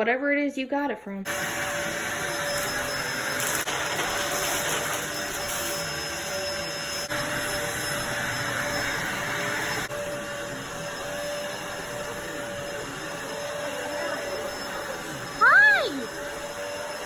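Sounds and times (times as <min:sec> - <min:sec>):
vacuum cleaner running: 0:01.3 - 0:17.0.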